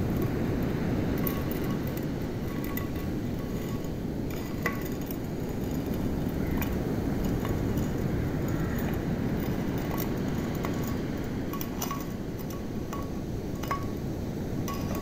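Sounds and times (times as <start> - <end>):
light chiming clinks: 0.0 - 15.0
steady low rush of noise: 0.0 - 15.0.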